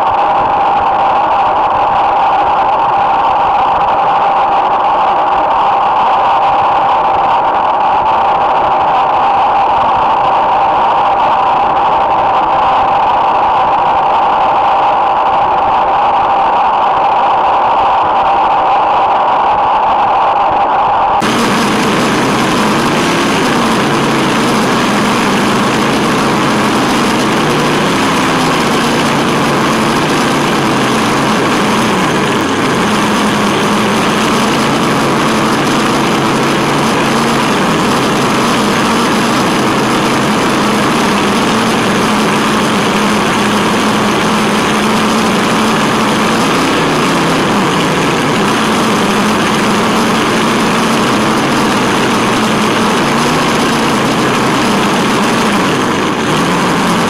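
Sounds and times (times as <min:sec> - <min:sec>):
rolling and wind noise: 0:00.0 - 0:57.0.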